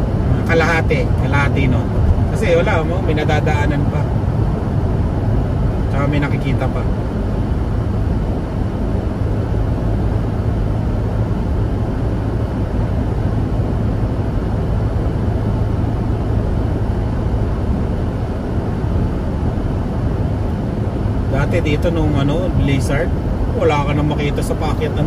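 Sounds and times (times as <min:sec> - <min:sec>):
car interior driving noise: 0:00.0 - 0:25.0.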